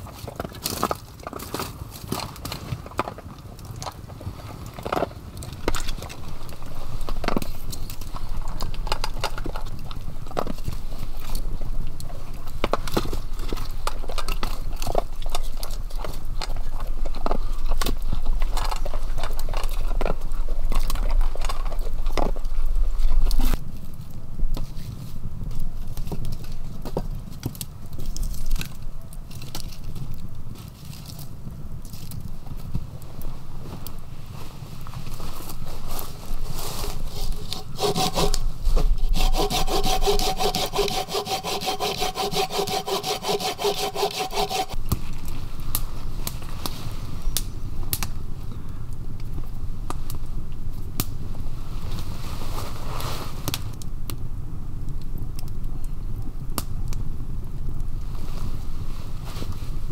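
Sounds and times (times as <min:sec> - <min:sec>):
wood fire crackling: 0:00.0 - 0:59.9
steady low rumble: 0:03.4 - 0:41.0, 0:44.7 - 0:59.9.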